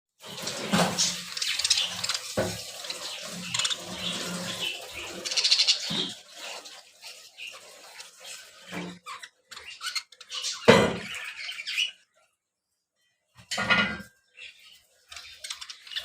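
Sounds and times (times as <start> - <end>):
budgerigars chattering and chirping: 0.6 - 12.0, 14.4 - 16.0.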